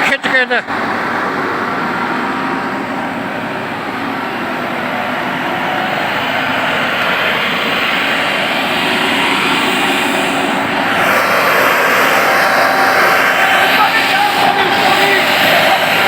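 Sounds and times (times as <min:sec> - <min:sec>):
tractor engines running hard: 0:00.0 - 0:16.0.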